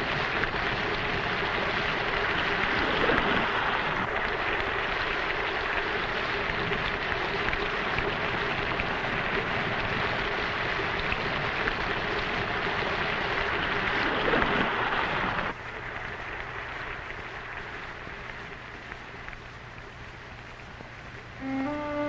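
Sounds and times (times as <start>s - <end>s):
faint hiss with low hum: 0.0s - 22.0s.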